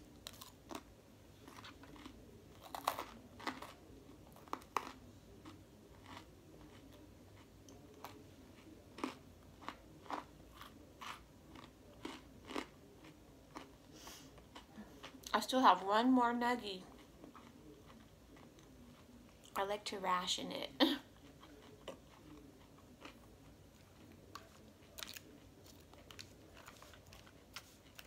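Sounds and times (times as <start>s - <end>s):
person chewing crunchy food: 0.1s - 15.3s, 16.9s - 19.6s, 21.2s - 28.0s.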